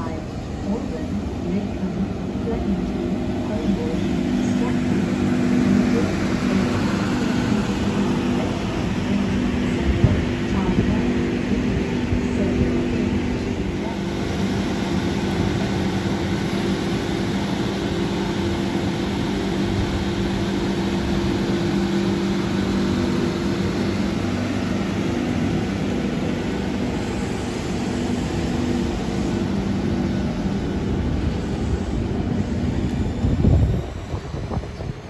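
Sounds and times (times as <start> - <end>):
train equipment humming: 0.0 - 35.0.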